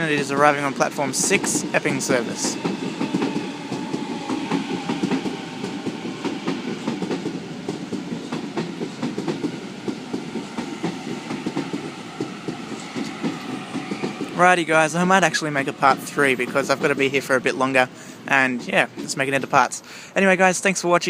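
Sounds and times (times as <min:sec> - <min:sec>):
train wheels clattering: 0:00.0 - 0:19.5
train rumble: 0:00.0 - 0:20.7.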